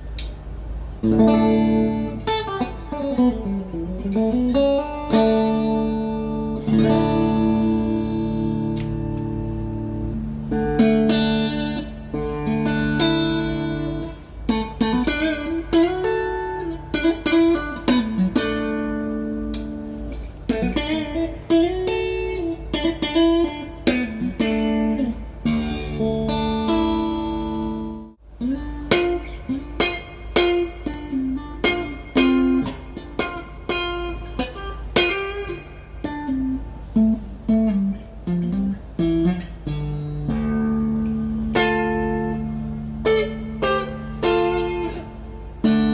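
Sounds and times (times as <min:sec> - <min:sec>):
electric guitar with string bends: 0:00.0 - 0:45.9.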